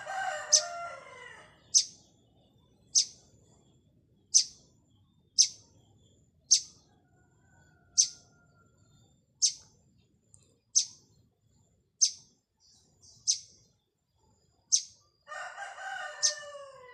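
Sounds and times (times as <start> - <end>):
small bird chirping: 0.0 - 15.3, 16.0 - 16.9.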